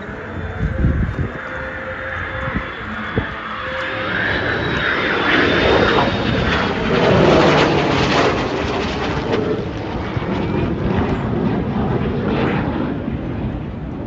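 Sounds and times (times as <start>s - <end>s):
jet flyby roar: 0.0s - 14.0s.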